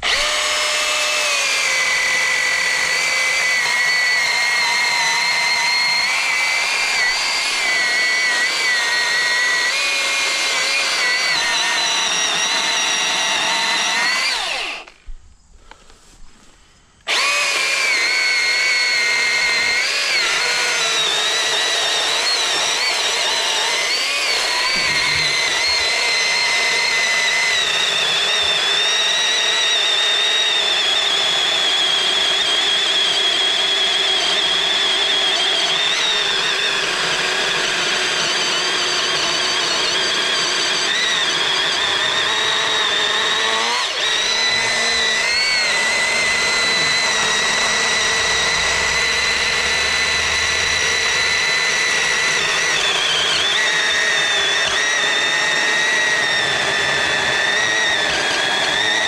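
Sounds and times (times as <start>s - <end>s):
battery chainsaw cutting wood: 0.0s - 15.1s, 17.0s - 59.0s.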